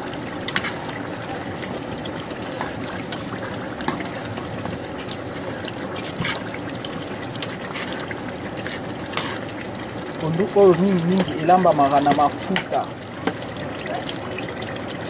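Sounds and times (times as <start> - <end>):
pot bubbling at a rolling boil: 0.0 - 15.0.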